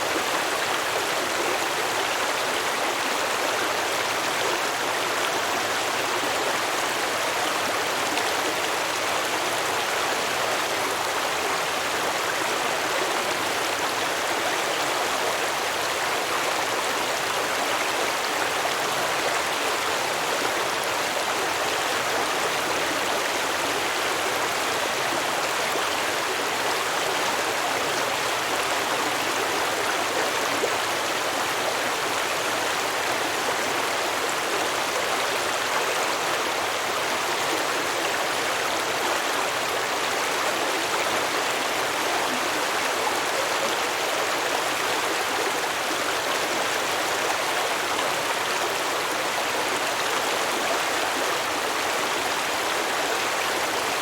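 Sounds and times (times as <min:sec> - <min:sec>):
stream water babbling over rocks: 0:00.0 - 0:54.0.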